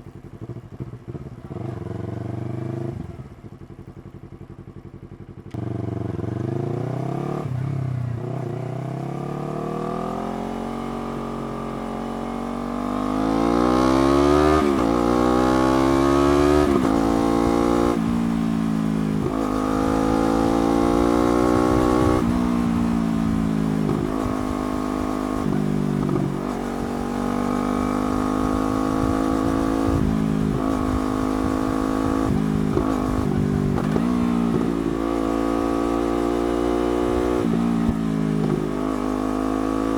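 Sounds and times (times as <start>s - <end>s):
motorcycle engine revving: 0.1s - 39.9s.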